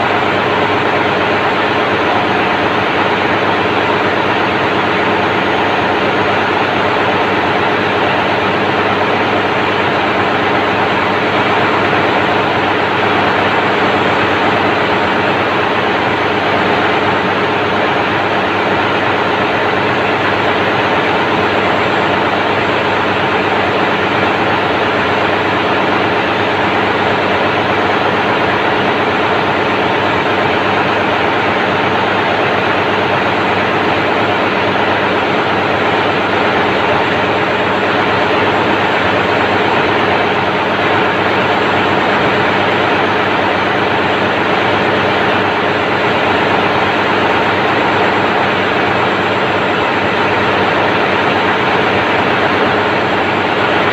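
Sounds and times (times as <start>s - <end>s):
diesel generator engine drone: 0.0s - 53.9s.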